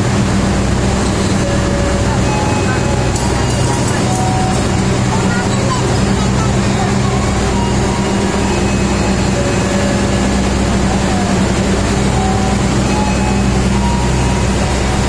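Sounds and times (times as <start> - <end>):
constant rumble: 0.0 - 15.0
train engine droning: 0.0 - 15.0.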